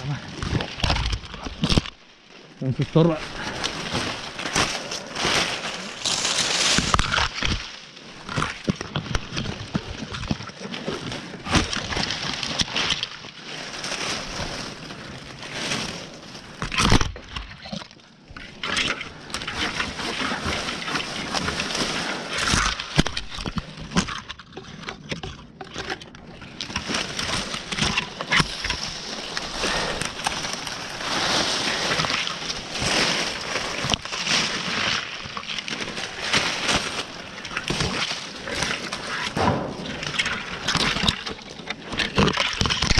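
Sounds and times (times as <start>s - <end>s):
leafy branches rustling: 0.0s - 24.3s, 25.8s - 42.9s
twigs cracking and snapping: 0.0s - 42.9s.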